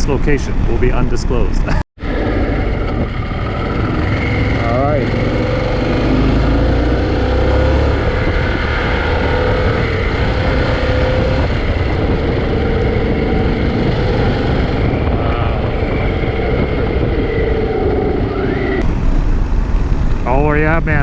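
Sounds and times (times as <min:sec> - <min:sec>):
motorcycle engine cruising: 0:00.0 - 0:18.0, 0:18.8 - 0:21.0
wind rumble on microphone: 0:00.0 - 0:21.0.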